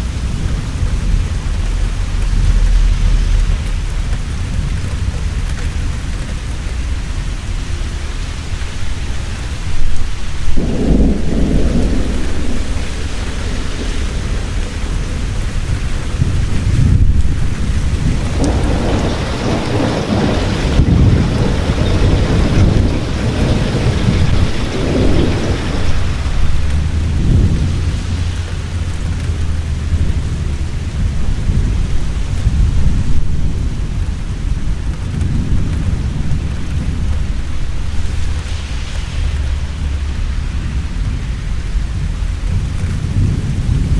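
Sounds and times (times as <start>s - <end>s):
heavy rain: 0.0s - 43.9s
rolling thunder: 0.0s - 43.9s.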